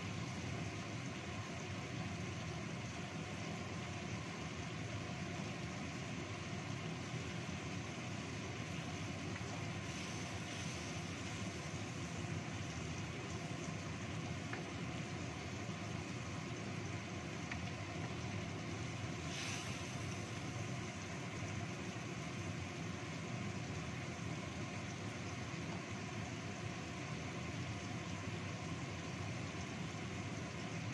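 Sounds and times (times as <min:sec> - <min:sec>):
paste frying and bubbling in wok: 0:00.0 - 0:30.9.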